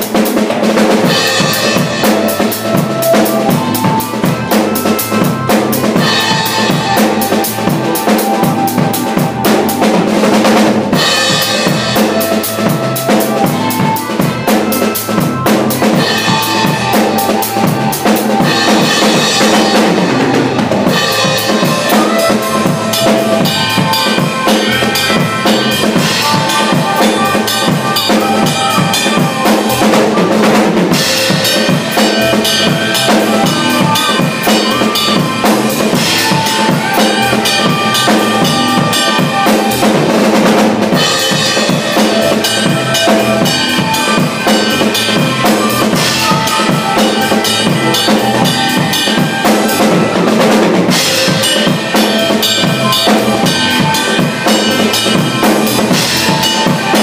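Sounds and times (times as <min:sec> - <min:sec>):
acoustic drum kit groove: 0:00.0 - 0:57.0.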